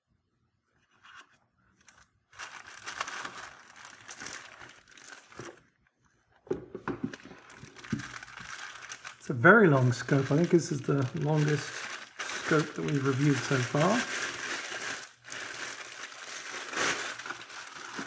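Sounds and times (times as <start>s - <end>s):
plastic bag crinkling: 1.8s - 5.8s, 7.2s - 18.0s.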